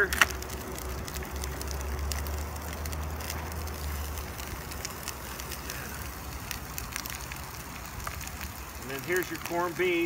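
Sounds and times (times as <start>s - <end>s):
celery crackling into pot: 0.0s - 10.0s.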